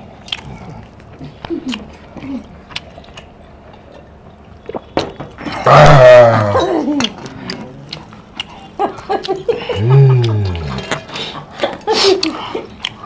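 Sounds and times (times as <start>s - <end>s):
man chewing: 0.0s - 13.0s.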